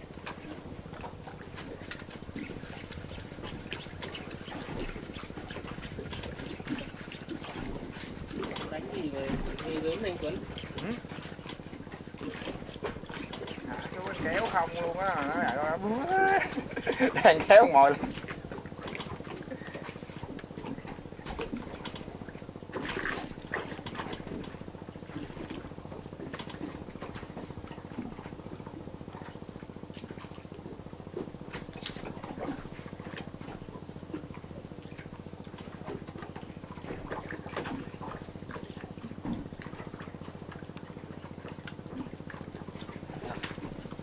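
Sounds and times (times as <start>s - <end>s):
boat engine idling: 0.0s - 44.0s.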